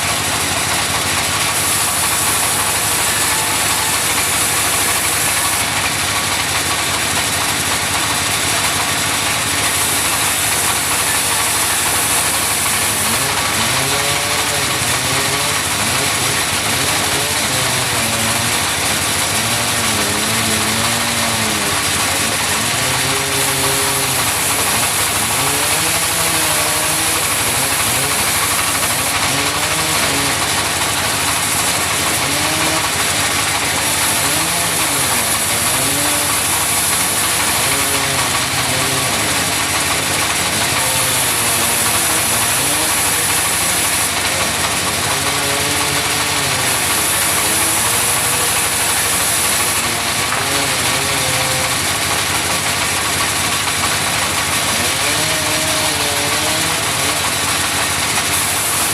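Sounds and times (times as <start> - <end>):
sawmill saw cutting wood: 0.0 - 58.9.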